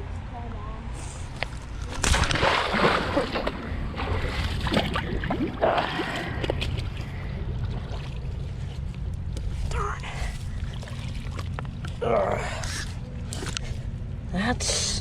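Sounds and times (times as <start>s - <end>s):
creek water splashing: 1.5s - 13.6s.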